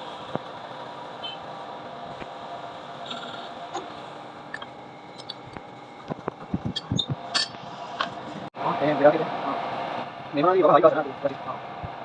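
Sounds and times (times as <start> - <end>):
workshop background hum: 0.0 - 12.0.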